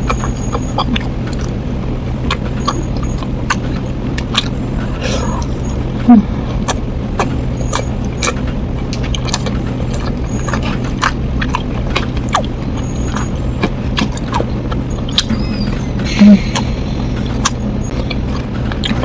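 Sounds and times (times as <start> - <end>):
chewing crispy snacks: 0.0 - 1.6, 2.2 - 4.6, 6.5 - 15.5, 16.4 - 19.0
steady low hum: 0.0 - 19.0
mouth clicks: 2.2 - 19.0.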